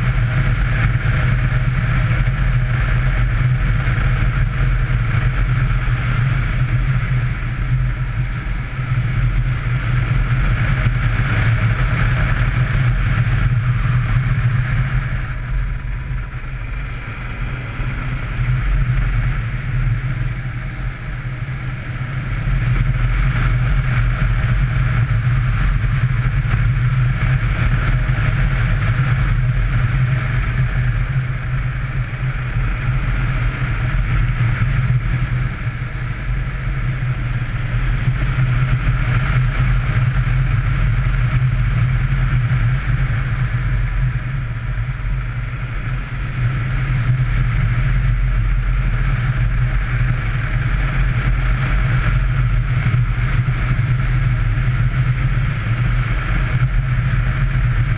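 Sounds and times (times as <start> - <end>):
motorcycle engine running: 0.0 - 57.9
road noise: 0.0 - 57.9
rushing wind: 0.0 - 57.9.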